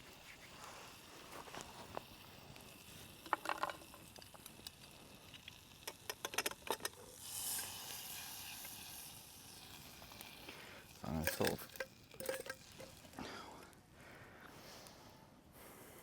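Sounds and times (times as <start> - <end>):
steak sizzling: 0.0 - 13.2.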